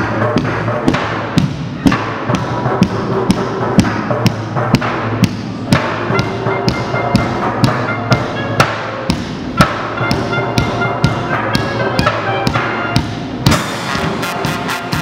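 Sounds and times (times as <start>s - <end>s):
music with held notes: 0.0s - 15.0s.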